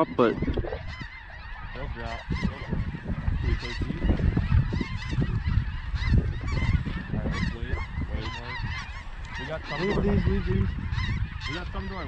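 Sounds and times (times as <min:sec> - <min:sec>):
geese honking: 0:00.0 - 0:12.0
wind rumble on microphone: 0:00.0 - 0:12.0.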